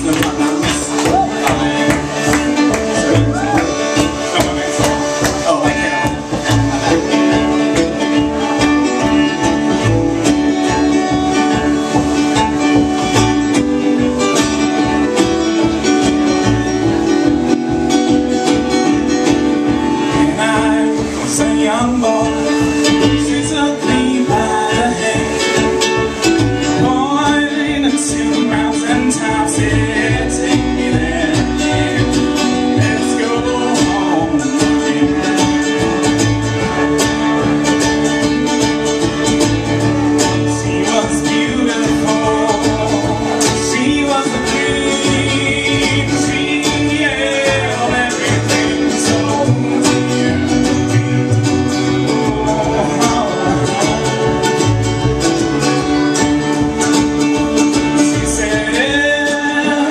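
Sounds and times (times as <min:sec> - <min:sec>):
person singing: 0:00.0 - 0:16.6, 0:18.6 - 0:37.0, 0:38.2 - 0:59.9
accordion: 0:00.0 - 0:59.9
mandolin: 0:00.0 - 0:59.9
strummed acoustic guitar: 0:00.0 - 0:59.9.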